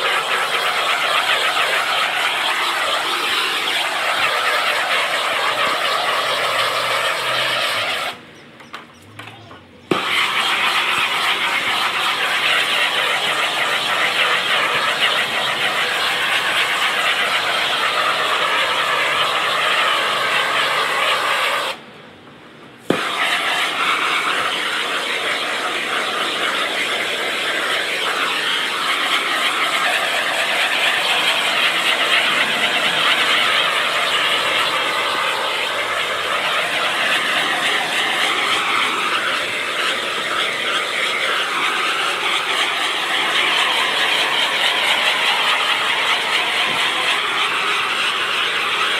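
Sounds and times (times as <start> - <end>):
heat gun roaring: 0.0 - 8.3, 9.9 - 21.8, 22.8 - 48.9.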